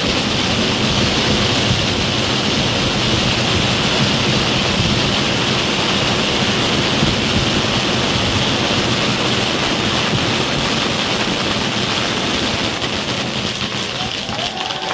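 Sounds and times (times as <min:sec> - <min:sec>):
fireworks rushing hiss: 0:00.0 - 0:14.9.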